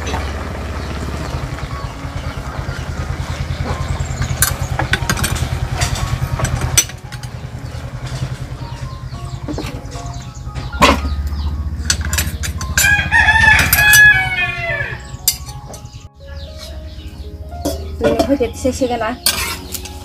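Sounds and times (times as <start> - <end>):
engine running with low throb: 0.0 - 18.0.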